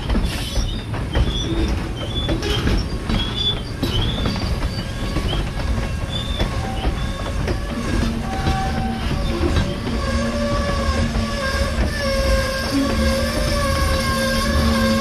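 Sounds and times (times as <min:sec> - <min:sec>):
freight train rumbling: 0:00.0 - 0:15.0
wheel flange squeals: 0:00.0 - 0:15.0.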